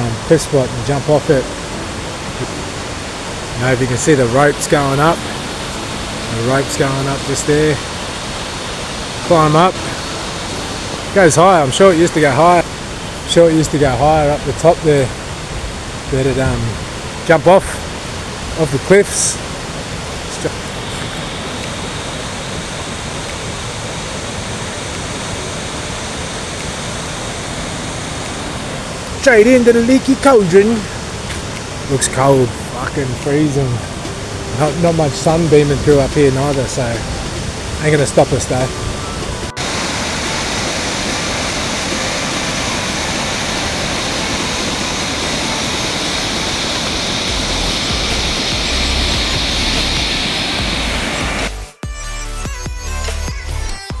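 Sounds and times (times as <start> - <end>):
rushing water of a creek: 0.0 - 51.6.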